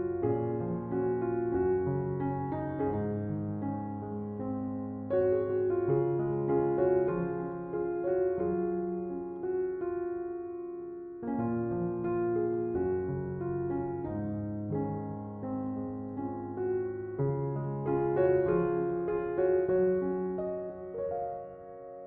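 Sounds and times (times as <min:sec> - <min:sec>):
soft slow piano music: 0:00.0 - 0:22.0.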